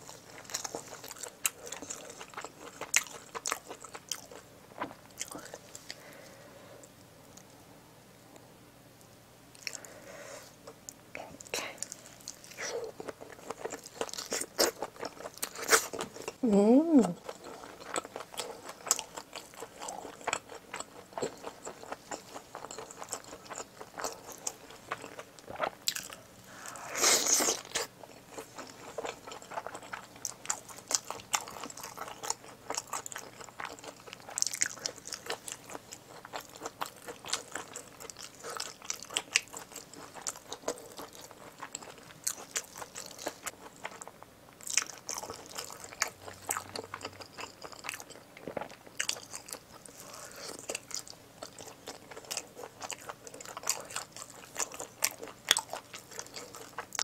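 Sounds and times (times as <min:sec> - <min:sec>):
wet chewing with mouth clicks: 0:10.6 - 0:57.0.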